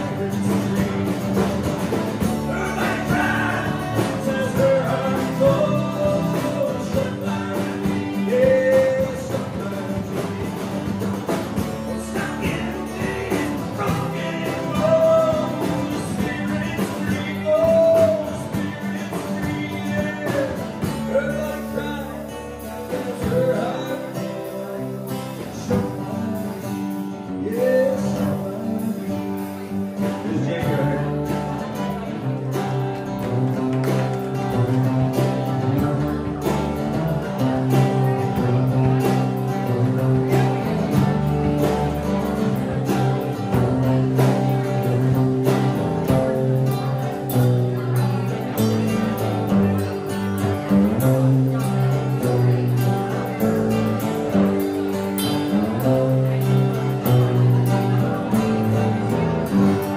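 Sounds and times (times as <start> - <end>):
live rock band playing: 0.0 - 59.9
man singing: 0.0 - 59.9.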